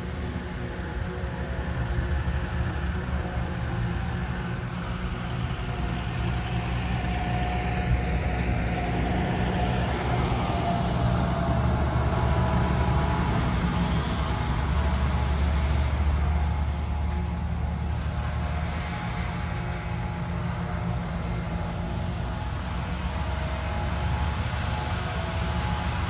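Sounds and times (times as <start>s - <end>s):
tractor engine droning: 0.1s - 26.0s.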